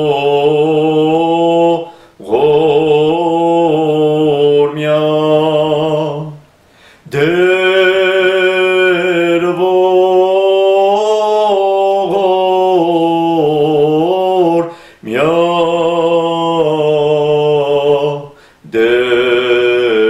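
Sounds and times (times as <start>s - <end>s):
man singing a prayer chant: 0.0s - 6.4s, 7.1s - 20.0s.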